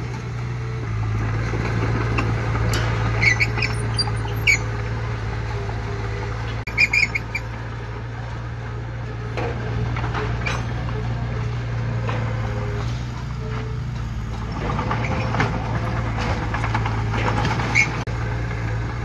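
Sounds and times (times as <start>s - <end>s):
diesel engine running: 0.0s - 19.0s
steel tracks squeaking: 0.9s - 8.1s, 9.2s - 18.1s.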